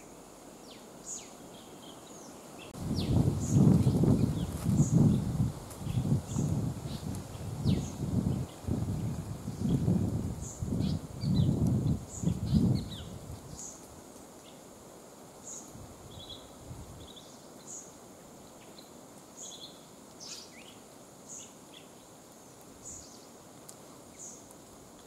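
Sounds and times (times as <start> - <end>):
small birds chirping: 0.0 - 14.7, 15.4 - 23.4, 24.1 - 24.5.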